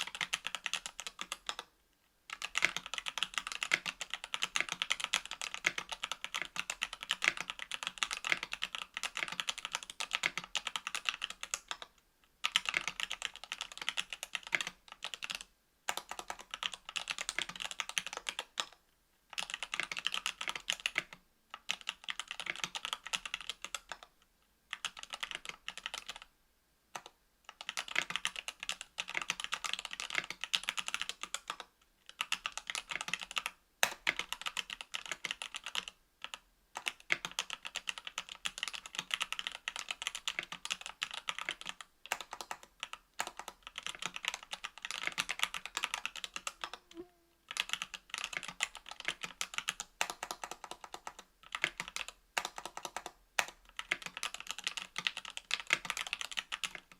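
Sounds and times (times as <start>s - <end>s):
mechanical keyboard typing: 0.0s - 1.7s, 2.3s - 24.1s, 24.7s - 26.3s, 26.9s - 56.9s.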